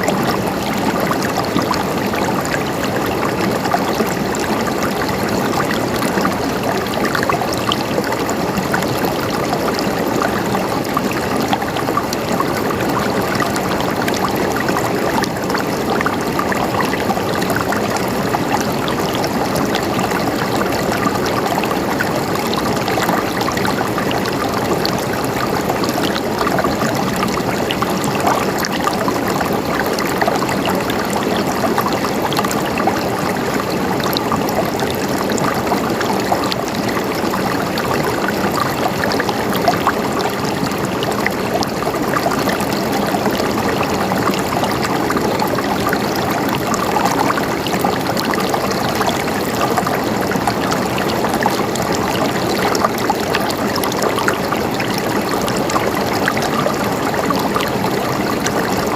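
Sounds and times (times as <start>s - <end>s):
running water gurgling: 0.0s - 58.9s.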